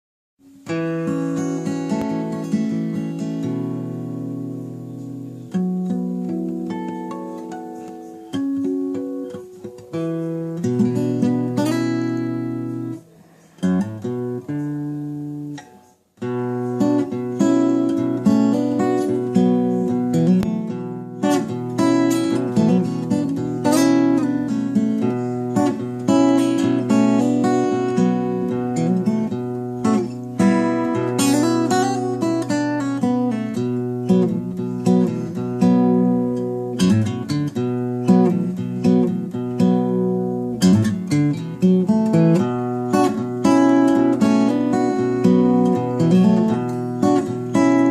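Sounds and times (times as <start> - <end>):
acoustic guitar playing: 0.4 - 47.9.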